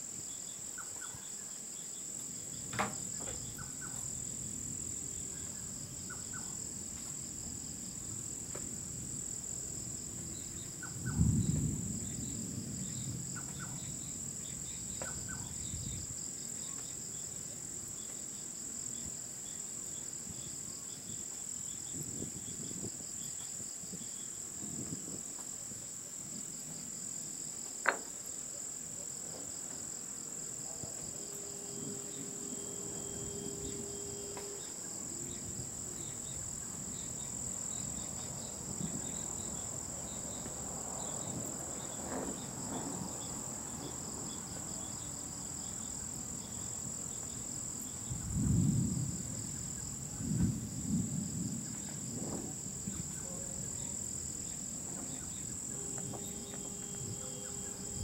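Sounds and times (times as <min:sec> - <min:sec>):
insects chorus: 0:00.0 - 0:58.0
rumble of thunder: 0:02.6 - 0:18.0, 0:20.2 - 0:25.3, 0:30.6 - 0:58.0.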